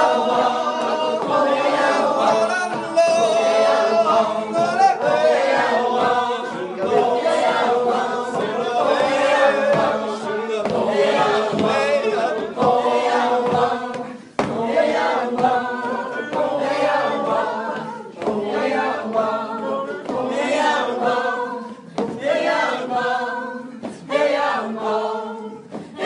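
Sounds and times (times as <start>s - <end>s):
group singing a cappella: 0.0s - 26.0s.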